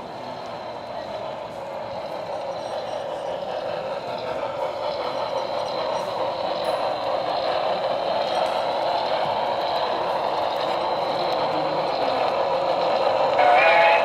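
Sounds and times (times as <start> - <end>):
model train rolling hum: 0.0 - 14.0.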